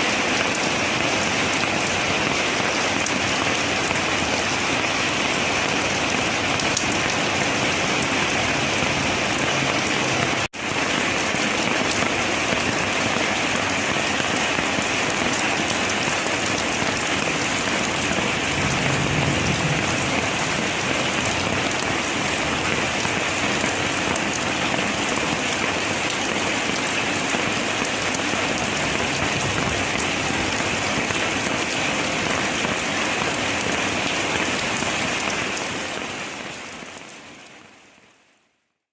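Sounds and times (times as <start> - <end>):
rain falling: 0.0 - 38.5.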